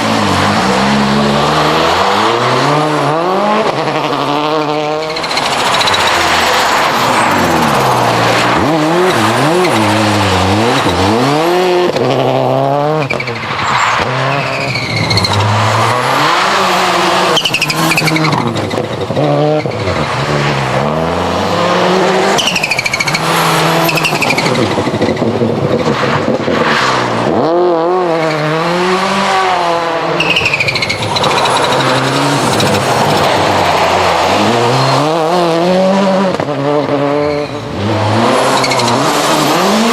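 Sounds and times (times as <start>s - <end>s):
rally car engine driven hard: 0.0s - 39.9s.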